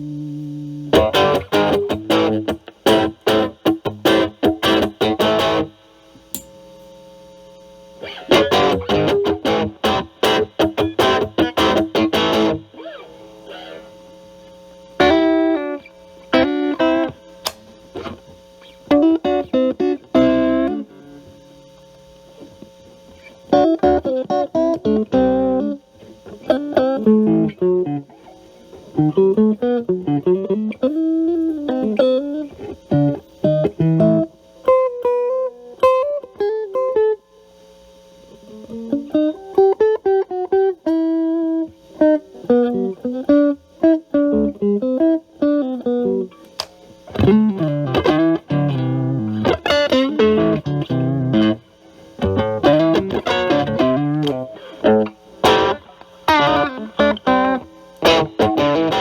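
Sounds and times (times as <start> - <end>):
overdriven electric guitar: 0.0 - 6.5, 7.8 - 37.3, 38.2 - 59.0.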